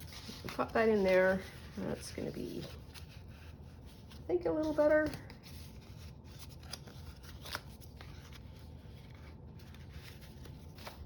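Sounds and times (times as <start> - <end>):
paper and card rustling: 0.0 - 11.0.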